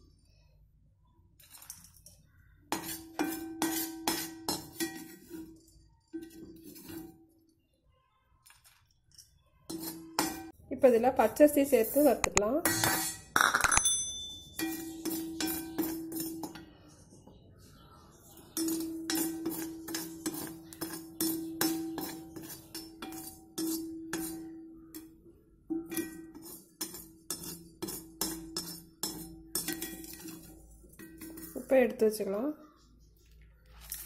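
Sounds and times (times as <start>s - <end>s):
metal spatula scraping a pan: 1.4s - 7.6s, 8.6s - 13.5s, 14.4s - 17.3s, 18.2s - 25.1s, 25.7s - 32.3s.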